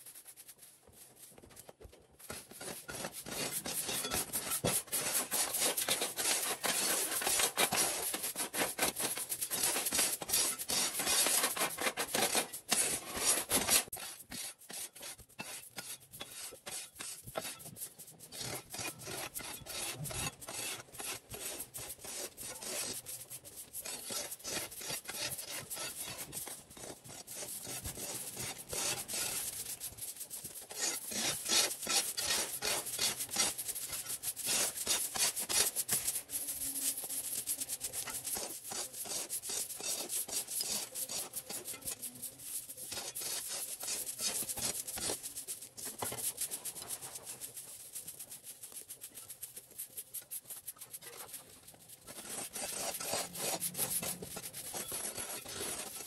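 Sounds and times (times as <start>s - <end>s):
rapid scraping strokes: 0.0s - 56.0s.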